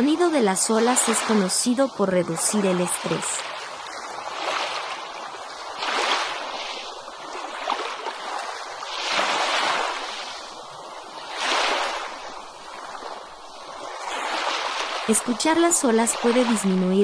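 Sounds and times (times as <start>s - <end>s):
ocean surf washing onto beach: 0.0s - 17.0s.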